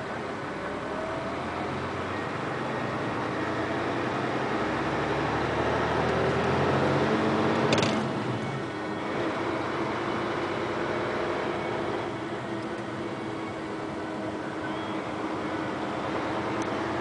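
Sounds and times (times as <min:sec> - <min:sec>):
road noise: 0:00.0 - 0:17.0
vehicle engine accelerating: 0:00.0 - 0:17.0.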